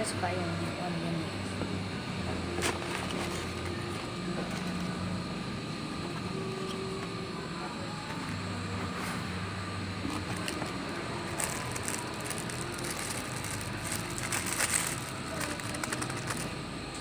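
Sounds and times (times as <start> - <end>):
steady low hum: 0.0 - 17.0
crackling rustling handling noise: 1.6 - 17.0.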